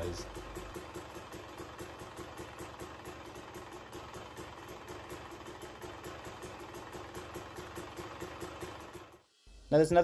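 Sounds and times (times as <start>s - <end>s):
two-stroke engine idling: 0.0s - 10.0s.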